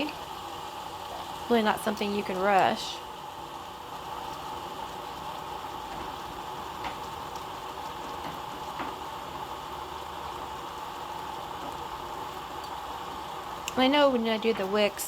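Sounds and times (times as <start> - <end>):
water bubbling at a simmer: 0.0 - 15.0.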